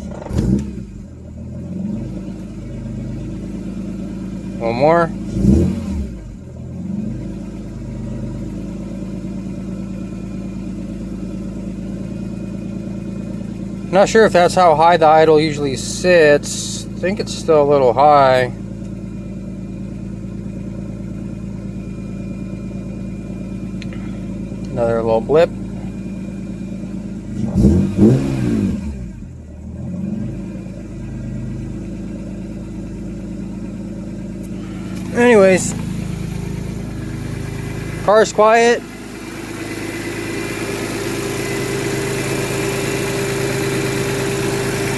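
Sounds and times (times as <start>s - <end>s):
car engine idling: 0.0s - 44.9s
car engine revving: 0.0s - 44.9s.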